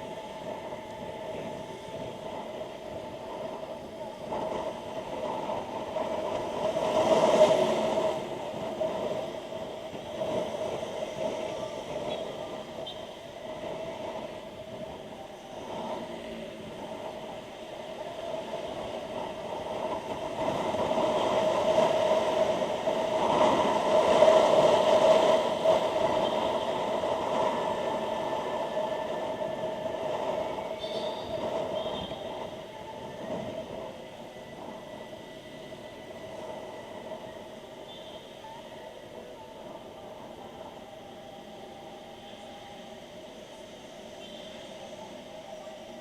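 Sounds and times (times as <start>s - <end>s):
motorcycle engine and wind drone: 0.0s - 46.0s.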